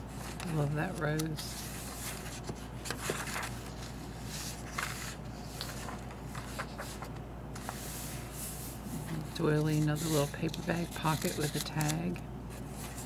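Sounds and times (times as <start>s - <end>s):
paper pages rustling: 0.1s - 13.0s.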